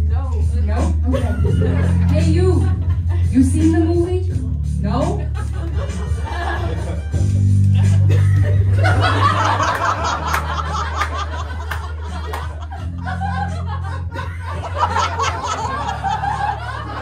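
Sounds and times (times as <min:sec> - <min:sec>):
backing track with bass and beat: 0:00.0 - 0:17.0
audience laughing: 0:01.0 - 0:03.3, 0:05.2 - 0:17.0.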